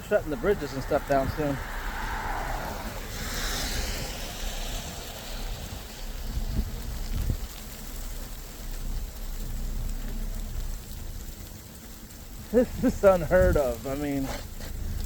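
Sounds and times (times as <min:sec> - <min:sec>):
steady soft hiss: 0:00.0 - 0:15.0
wind buffeting microphone: 0:00.0 - 0:15.0.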